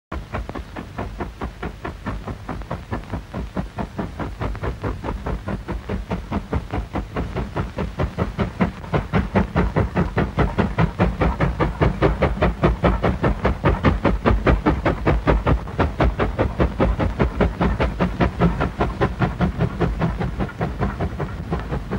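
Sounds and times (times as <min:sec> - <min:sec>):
steam locomotive chuffing: 0:00.1 - 0:21.9.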